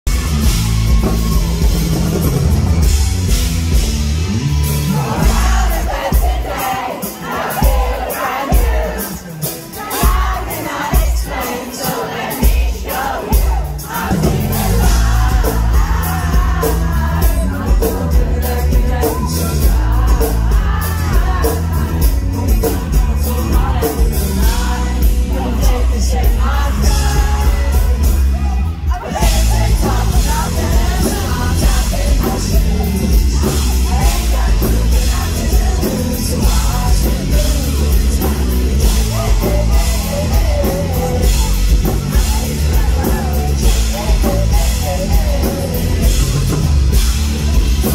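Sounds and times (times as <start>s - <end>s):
drums and cymbals: 0.0s - 47.9s
live pop-rock band playing: 0.0s - 47.9s
lead vocals: 0.1s - 47.9s.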